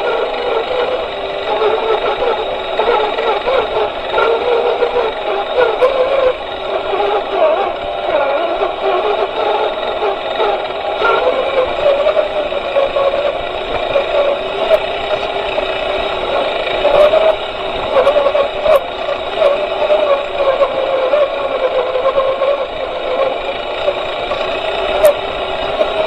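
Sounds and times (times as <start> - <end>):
toy car motor whining: 0.0 - 26.0.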